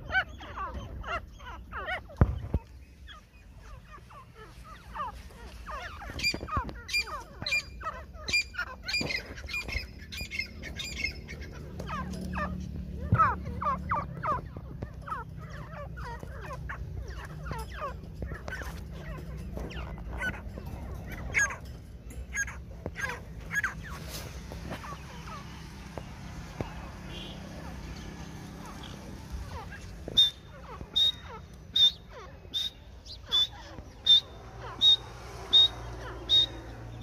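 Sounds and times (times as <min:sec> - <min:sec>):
francolins calling: 0:00.0 - 0:37.0.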